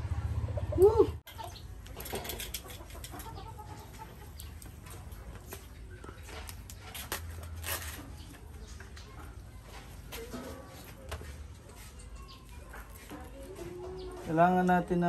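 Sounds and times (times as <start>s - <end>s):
chickens clucking: 0.3s - 6.8s, 8.4s - 15.0s.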